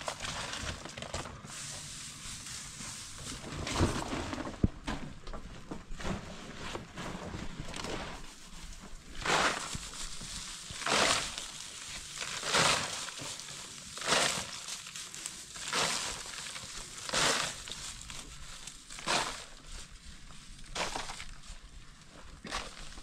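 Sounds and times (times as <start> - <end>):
dry straw crunching and rustling: 0.0 - 4.5, 7.0 - 23.0.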